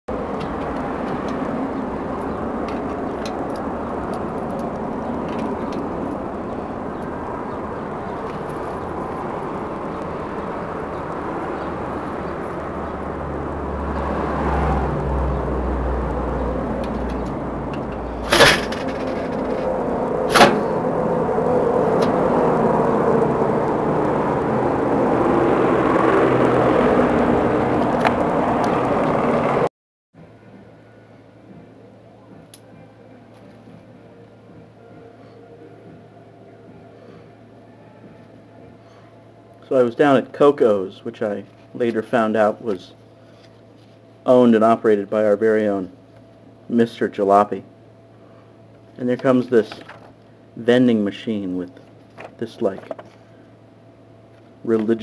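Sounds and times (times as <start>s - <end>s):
vehicle rumble: 0.1s - 44.4s
outdoor street noise: 0.1s - 55.0s.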